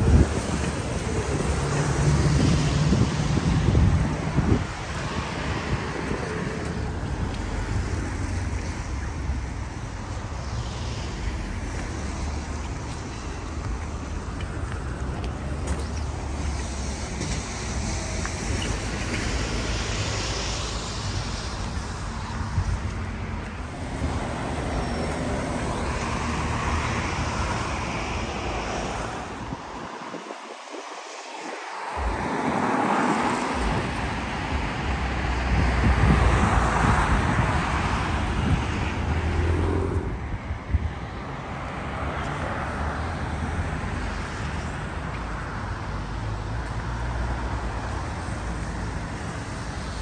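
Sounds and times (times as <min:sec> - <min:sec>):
road traffic rumble and hiss: 0:00.0 - 0:50.0.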